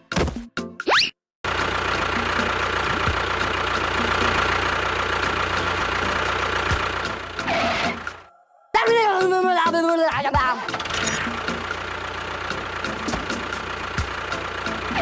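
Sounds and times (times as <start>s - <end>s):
music: 0.0s - 0.9s, 1.6s - 15.0s.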